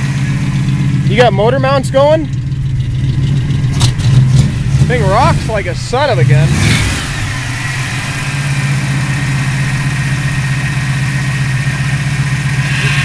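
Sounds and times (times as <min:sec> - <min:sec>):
engine idling rough: 0:00.0 - 0:13.0.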